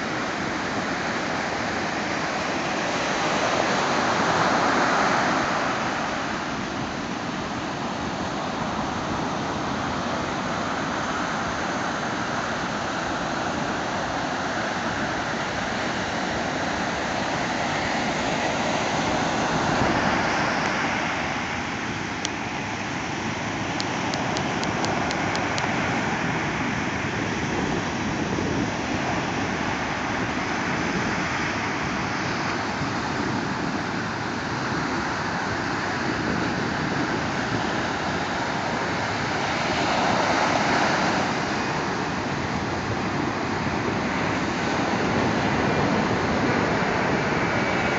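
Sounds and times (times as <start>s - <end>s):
ocean waves breaking on beach: 0.0s - 47.9s.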